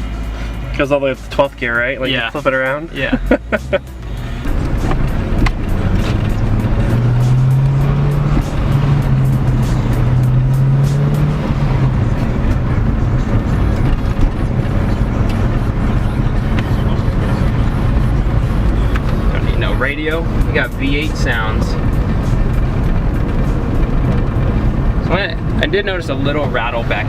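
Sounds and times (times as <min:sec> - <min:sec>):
car engine drone: 0:00.0 - 0:27.0.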